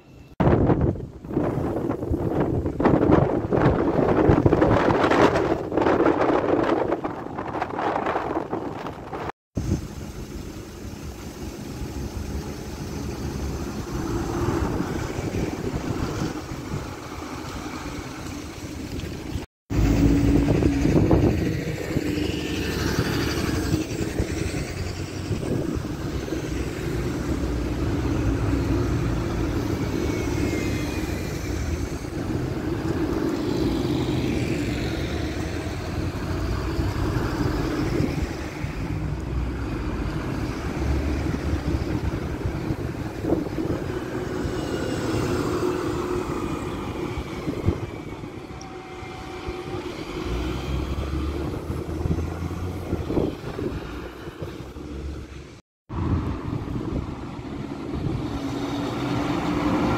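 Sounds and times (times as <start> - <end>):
traffic engines droning: 0.0 - 59.9
wind rumbling on microphone: 0.0 - 59.9.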